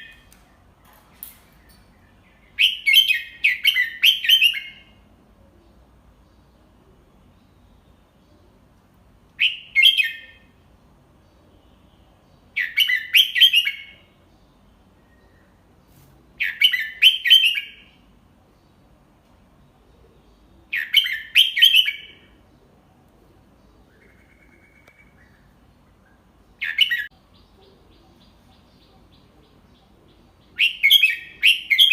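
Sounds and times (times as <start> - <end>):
bird singing: 0.0 - 8.8, 9.4 - 15.7, 16.4 - 31.9.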